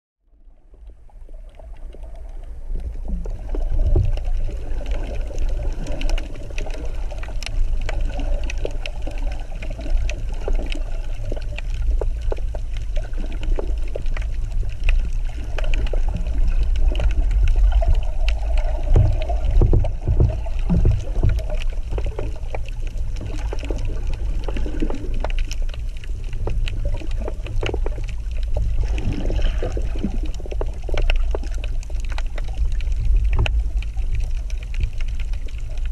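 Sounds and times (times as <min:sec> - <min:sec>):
underwater rumble of moving water: 0:00.2 - 0:35.9
small underwater clicks and crackles: 0:00.3 - 0:35.9.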